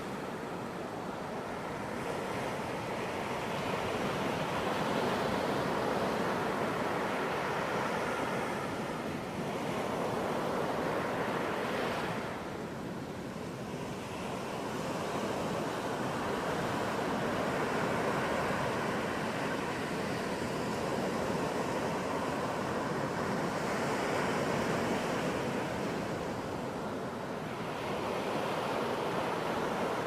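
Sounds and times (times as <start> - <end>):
ocean waves washing onto beach: 0.0 - 30.0.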